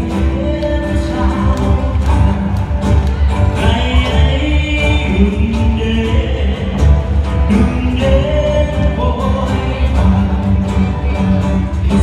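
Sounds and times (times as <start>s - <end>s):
lead vocal singing: 0.0s - 11.2s
cajon beat: 0.0s - 12.0s
strummed guitars: 0.0s - 12.0s.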